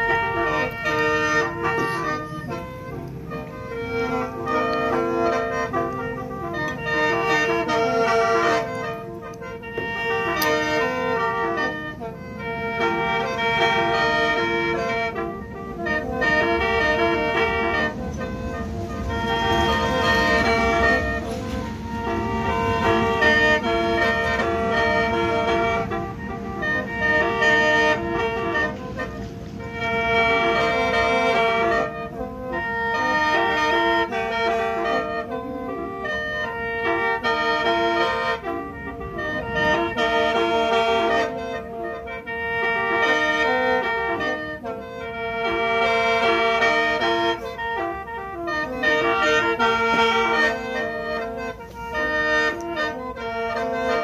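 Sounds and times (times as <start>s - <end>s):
mouth organ melody over drone: 0.0s - 54.0s.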